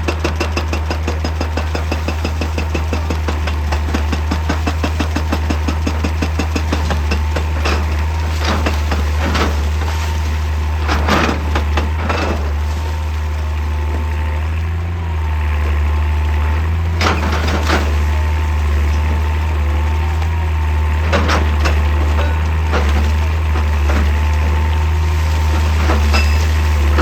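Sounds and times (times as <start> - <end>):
excavator diesel engine: 0.0 - 27.0
hydraulic whine: 0.0 - 27.0.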